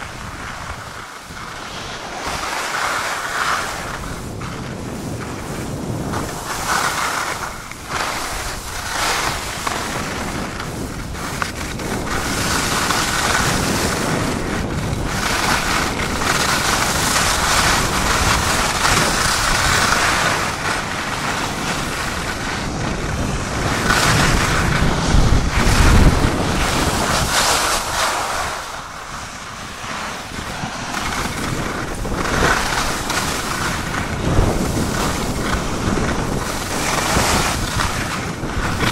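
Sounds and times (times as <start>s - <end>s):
skis carving on hard snow: 0.0s - 38.9s
wind rushing over microphone: 0.0s - 38.9s.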